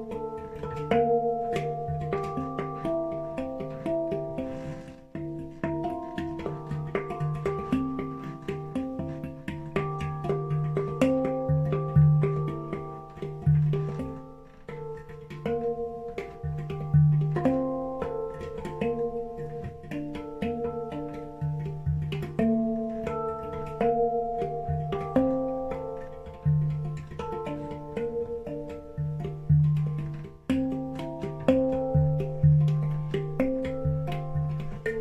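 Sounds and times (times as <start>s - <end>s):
deep low handpan note: 0.0s - 35.0s
handpan notes ringing: 0.0s - 35.0s
light taps on handpan: 0.0s - 35.0s.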